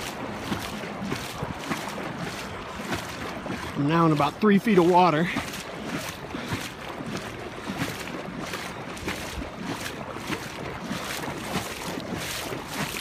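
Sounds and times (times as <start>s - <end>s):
wading through water: 0.0s - 13.0s.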